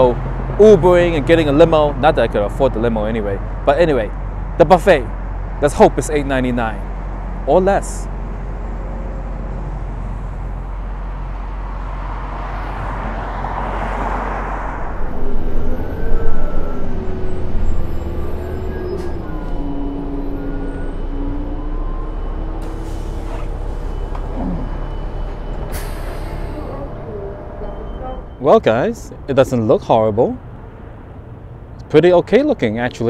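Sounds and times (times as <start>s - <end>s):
bus engine rumble and whine: 0.0s - 33.0s.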